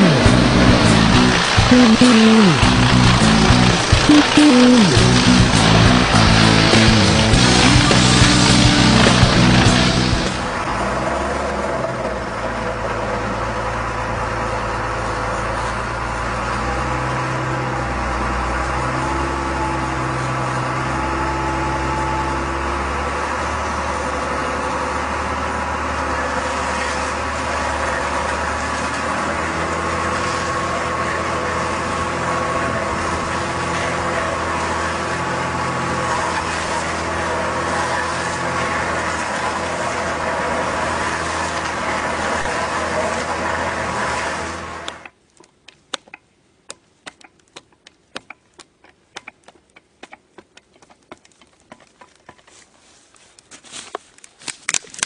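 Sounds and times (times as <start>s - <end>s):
engine running steadily: 0.0s - 45.2s.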